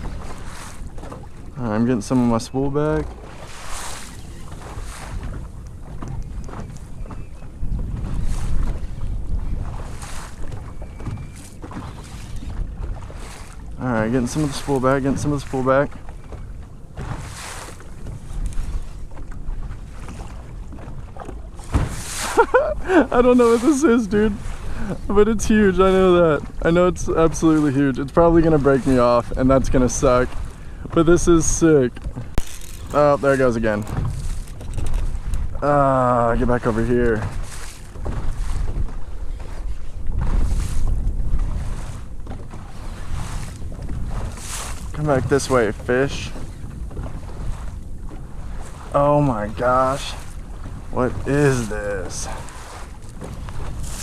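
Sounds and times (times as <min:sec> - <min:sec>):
water lapping around boat: 0:00.0 - 0:54.0
wind buffeting microphone: 0:00.0 - 0:54.0.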